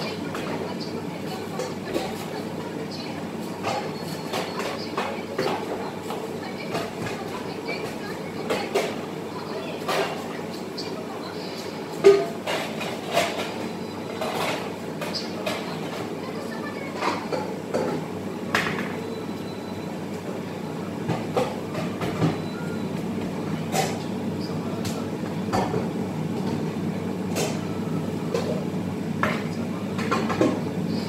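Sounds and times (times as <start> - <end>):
kitchen equipment humming: 0.0 - 31.0.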